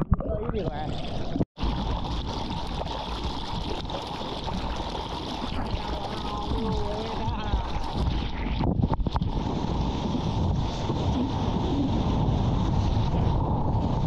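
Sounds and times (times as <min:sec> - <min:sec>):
seawater sloshing and gurgling: 0:00.0 - 0:14.0.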